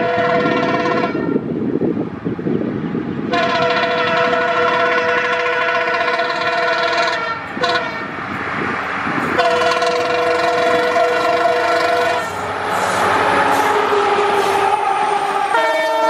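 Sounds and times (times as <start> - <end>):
locomotive air horn: 0.0 - 1.4, 3.3 - 8.2, 9.2 - 16.0
train passing at speed: 0.0 - 16.0.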